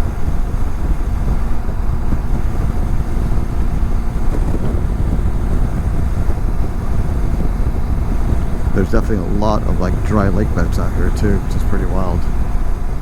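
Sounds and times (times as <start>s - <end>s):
motorcycle engine cruising: 0.0s - 13.0s
wind rush over microphone: 0.0s - 13.0s.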